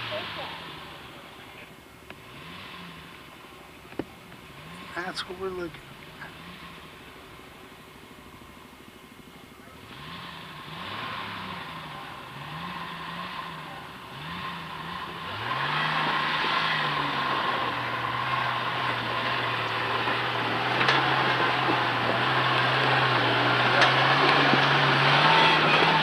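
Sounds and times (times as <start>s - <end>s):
jeep engine revving: 0.0s - 26.0s.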